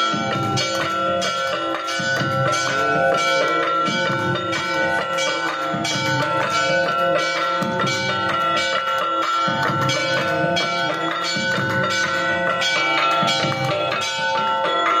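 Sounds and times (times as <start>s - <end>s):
bells clanging: 0.0s - 15.0s.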